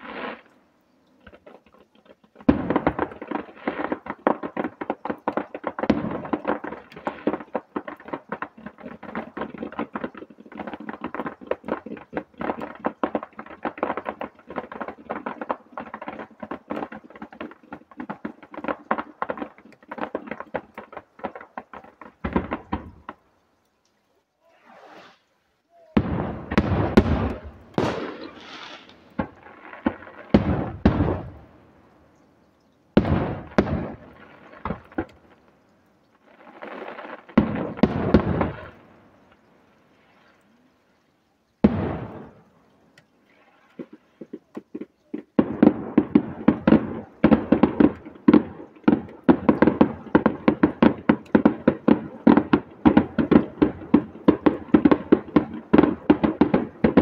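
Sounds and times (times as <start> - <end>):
rapid firework barrage: 0.0 - 23.2, 24.5 - 32.0, 32.9 - 40.6, 41.6 - 42.6, 43.3 - 57.0
firework shells bursting: 0.0 - 23.8, 24.5 - 40.6, 41.4 - 57.0.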